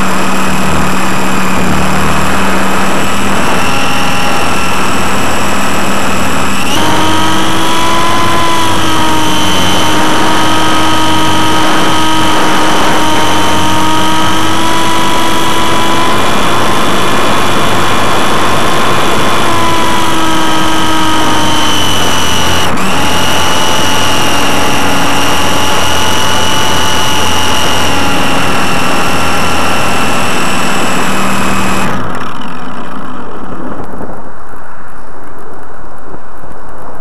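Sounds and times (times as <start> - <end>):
model plane electric motor whining: 0.0 - 34.0
wind rushing over microphone: 0.0 - 37.0.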